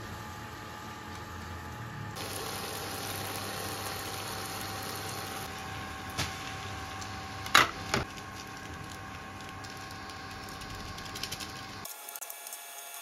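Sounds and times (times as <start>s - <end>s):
noodles sizzling and crackling: 0.0s - 13.0s.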